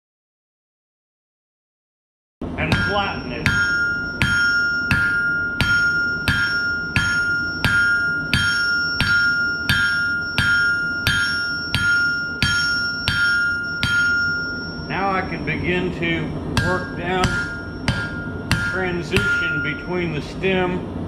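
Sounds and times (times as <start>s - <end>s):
hammer striking steel on anvil: 2.6s - 20.3s
anvil ringing: 2.6s - 20.7s.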